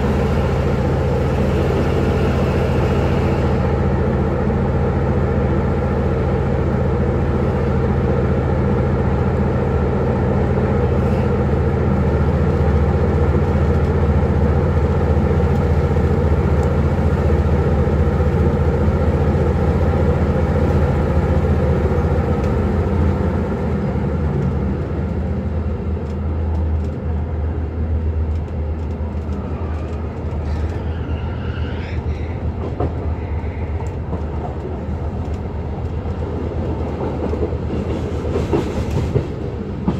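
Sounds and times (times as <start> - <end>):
train diesel engine drone: 0.0 - 39.9.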